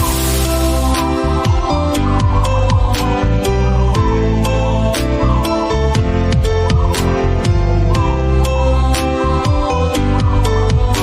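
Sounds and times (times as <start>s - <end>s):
background music with steady beat: 0.0s - 11.0s
sliding deep bass notes: 0.0s - 11.0s.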